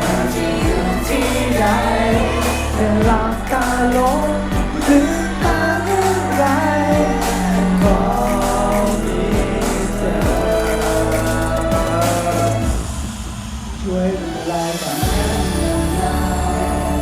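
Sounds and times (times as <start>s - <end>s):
bass line: 0.0s - 14.3s, 15.0s - 17.0s
drums: 0.0s - 17.0s
person singing: 0.0s - 17.0s.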